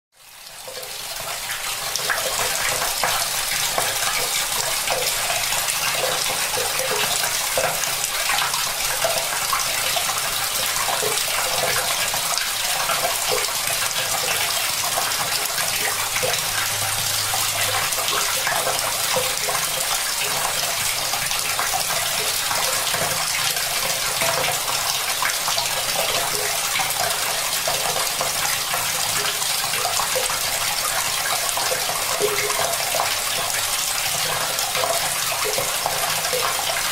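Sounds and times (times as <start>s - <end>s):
tap water pouring into bucket: 0.2s - 36.9s.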